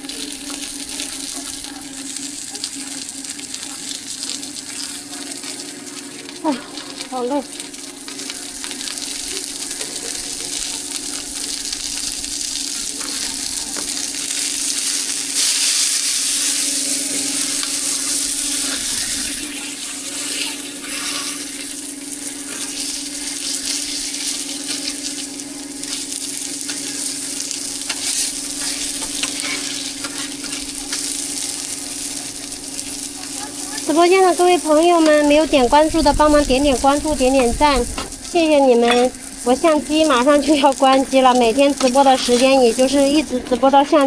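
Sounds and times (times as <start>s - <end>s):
constant low hum: 0.0s - 44.0s
food sizzling: 0.0s - 44.0s.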